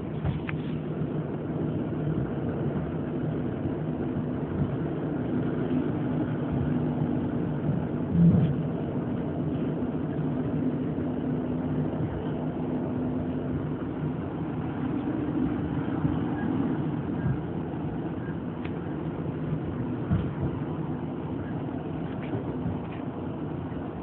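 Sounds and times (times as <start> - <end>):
low hum: 0.0 - 24.0
train carriage rumble: 0.0 - 24.0.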